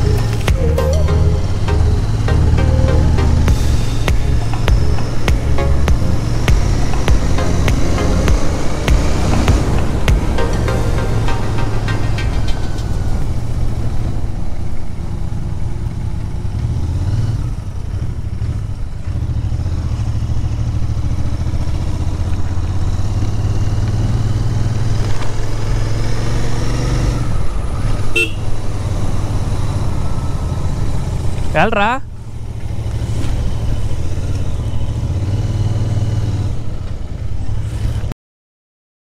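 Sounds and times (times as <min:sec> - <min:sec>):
motorcycle engine running: 0:00.0 - 0:31.4
road and wind noise: 0:00.0 - 0:38.2.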